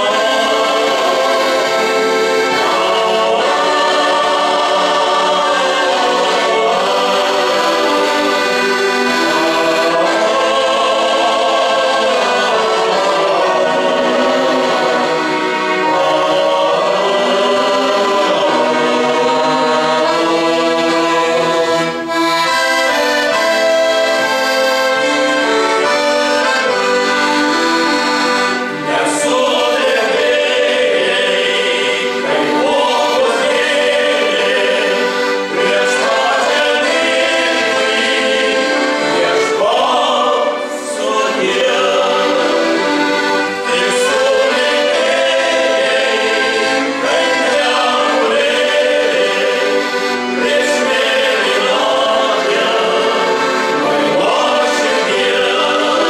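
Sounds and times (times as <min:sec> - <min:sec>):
accordion chords: 0:00.0 - 0:56.0
men singing in harmony: 0:00.0 - 0:56.0.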